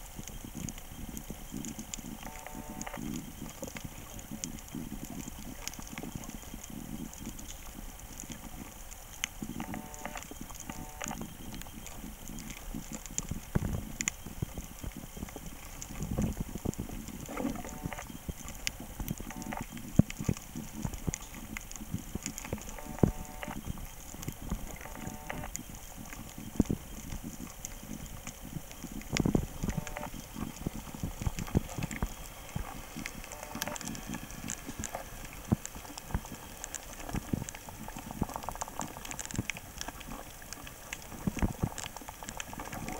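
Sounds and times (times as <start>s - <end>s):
underwater crackle of clicks: 0.0s - 42.9s.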